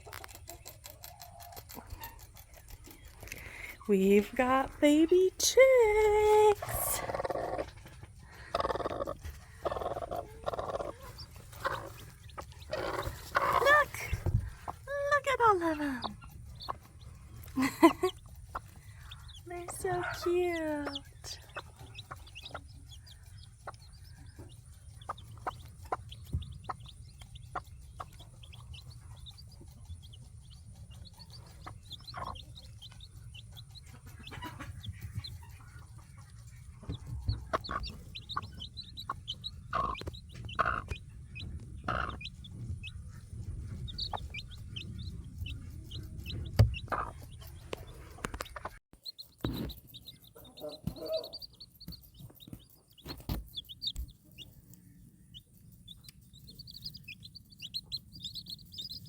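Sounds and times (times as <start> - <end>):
baby chicks peeping: 0.0 - 59.0
hen clucking: 0.0 - 59.0.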